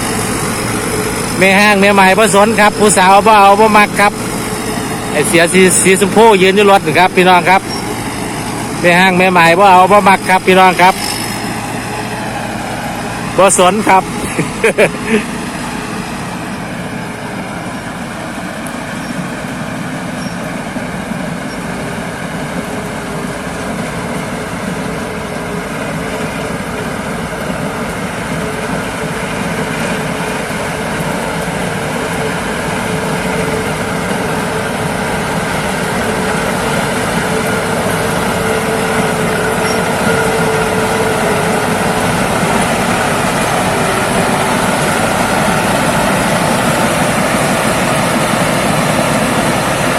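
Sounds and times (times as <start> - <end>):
combine harvester drone: 0.0 - 49.9.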